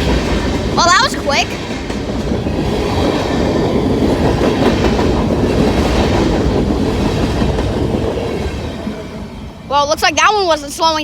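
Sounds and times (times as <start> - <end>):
wheels clacking over rail joints: 0.0 - 9.3
freight train rumbling past: 0.0 - 11.0.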